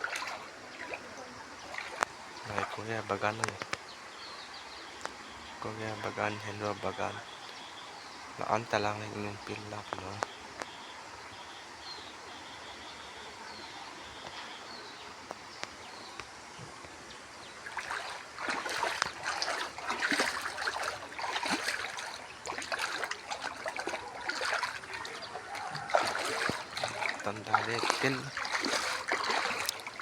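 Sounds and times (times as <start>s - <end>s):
floodwater splashing and trickling: 0.0s - 11.3s, 14.2s - 30.0s.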